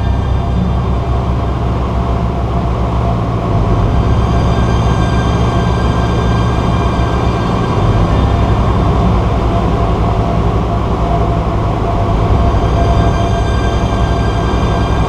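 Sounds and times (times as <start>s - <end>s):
small plane engine droning: 0.0s - 15.0s.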